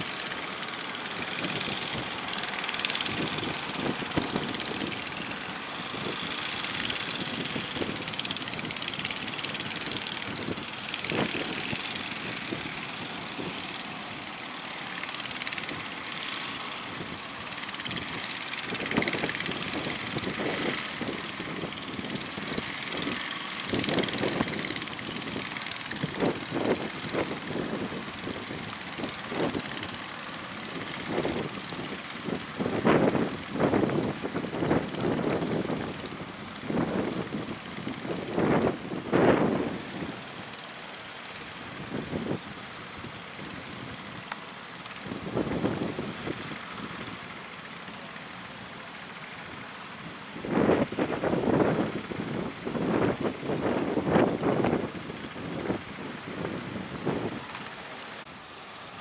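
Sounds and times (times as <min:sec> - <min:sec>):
wind buffeting microphone: 0:00.0 - 0:44.3, 0:44.9 - 0:47.8, 0:48.4 - 0:58.3
waves breaking on a beach: 0:00.0 - 0:59.0.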